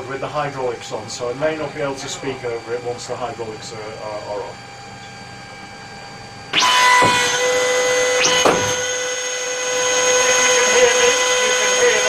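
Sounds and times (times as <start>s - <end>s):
hydraulic pump high whine: 0.0s - 12.0s.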